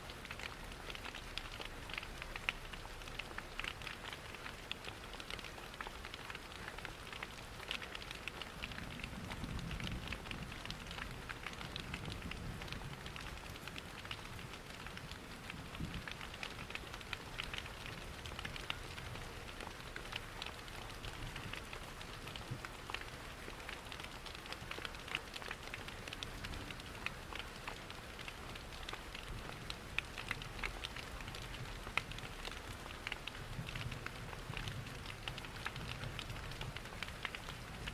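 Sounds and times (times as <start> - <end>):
steady rain: 0.0 - 37.9
wood fire crackling: 0.1 - 37.9.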